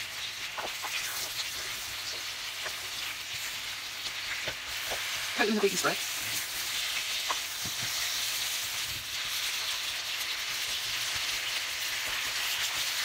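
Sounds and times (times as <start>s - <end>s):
potato slices sizzling: 0.0s - 13.0s.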